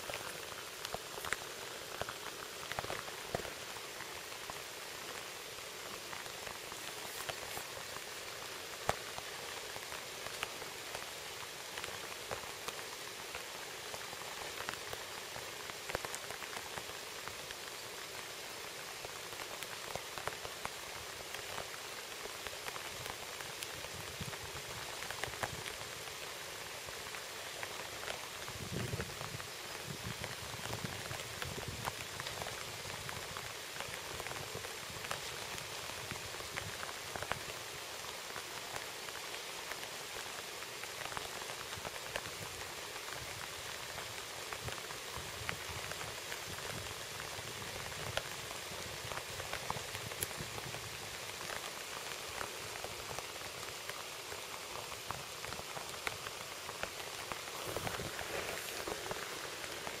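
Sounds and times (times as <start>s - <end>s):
heavy rain falling on water: 0.0s - 60.0s.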